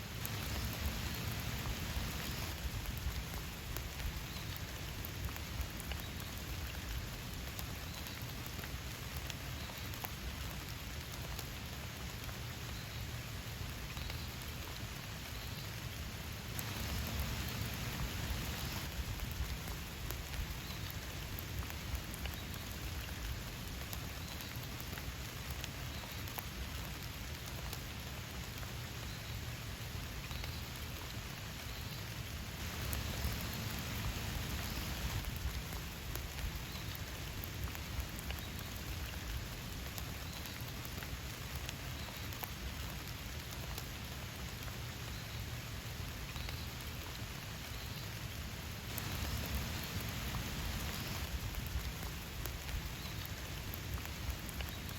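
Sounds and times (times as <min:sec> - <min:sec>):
raindrops tapping: 0:00.0 - 0:12.6, 0:16.0 - 0:29.1, 0:29.9 - 0:54.9
rain falling: 0:00.0 - 0:54.9.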